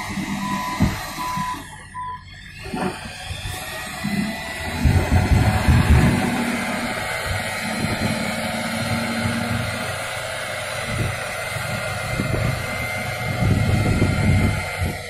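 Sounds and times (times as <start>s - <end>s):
heavy vehicle engine running: 0.0s - 15.0s
low rumbles: 2.0s - 15.0s.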